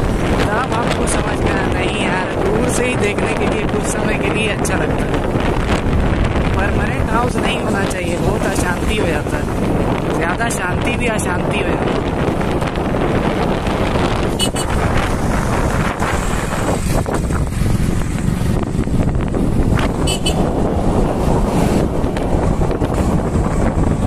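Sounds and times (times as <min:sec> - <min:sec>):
motorcycle road and engine noise: 0:00.0 - 0:24.0
wind rushing over microphone: 0:00.0 - 0:24.0.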